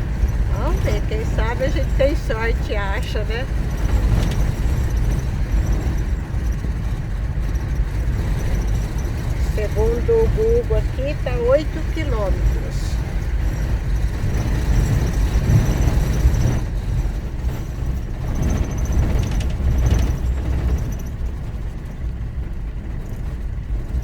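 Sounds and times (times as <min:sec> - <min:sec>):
vehicle rattling: 0:00.0 - 0:24.0
vehicle rumbling on dirt road: 0:00.0 - 0:24.0.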